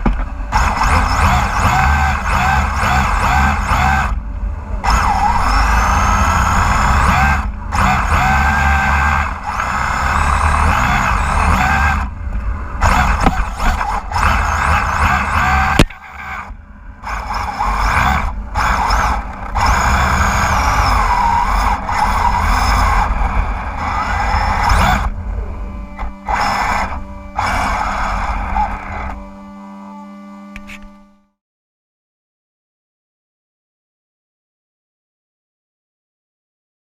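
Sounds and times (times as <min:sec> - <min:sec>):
electric motor whining: 0:00.0 - 0:31.4.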